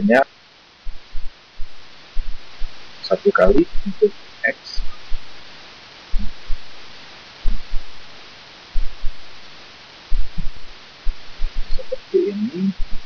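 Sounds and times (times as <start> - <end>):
microphone hiss: 0.0 - 13.0.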